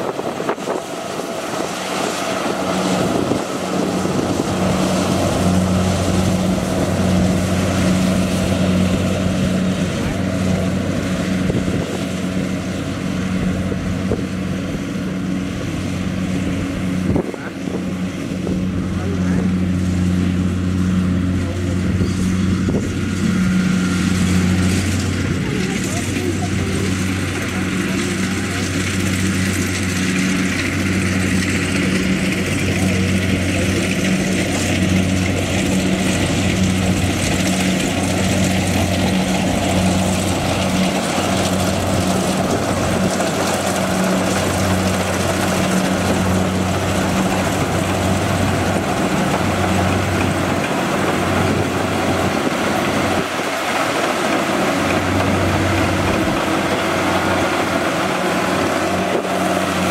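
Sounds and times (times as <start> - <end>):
combine harvester engine running: 0.0 - 59.9
threshing machinery whir: 0.0 - 59.9.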